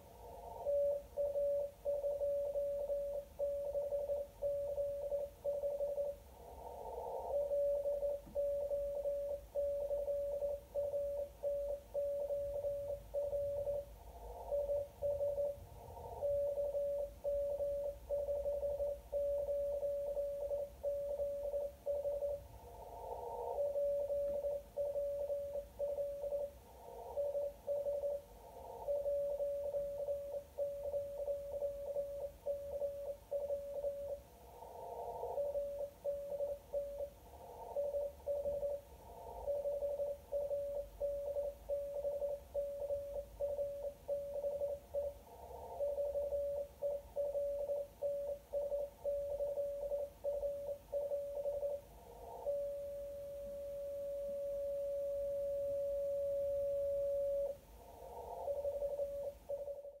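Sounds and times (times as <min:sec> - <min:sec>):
morse code tone: 0:00.6 - 0:06.2, 0:07.3 - 0:22.4, 0:23.5 - 0:34.2, 0:35.3 - 0:45.2, 0:45.8 - 0:57.6, 0:58.4 - 1:00.0.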